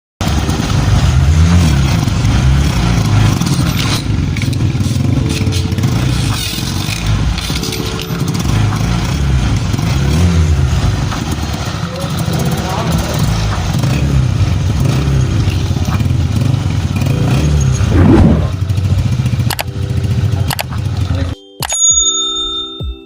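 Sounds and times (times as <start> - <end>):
motorcycle engine revving: 0.2 - 21.4.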